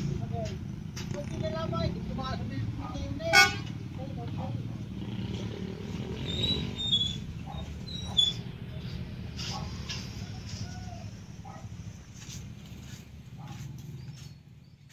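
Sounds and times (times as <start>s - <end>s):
diesel engine rumbling: 0.0s - 14.9s.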